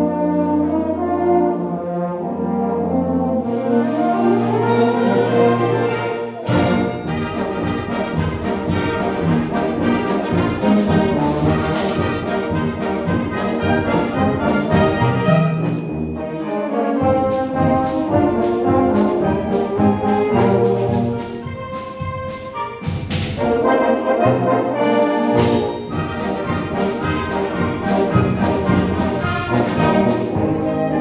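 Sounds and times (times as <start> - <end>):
concert band playing: 2.4 - 31.0.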